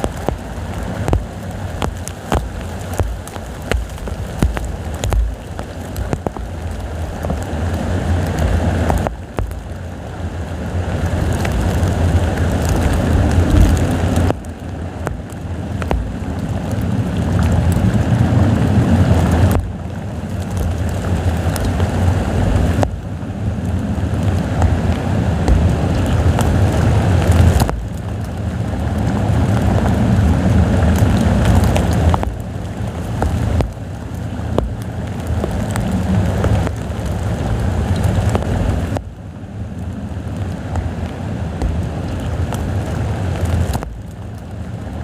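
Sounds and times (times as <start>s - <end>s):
heavy rain falling: 0.0s - 45.0s
wind buffeting microphone: 0.0s - 45.0s.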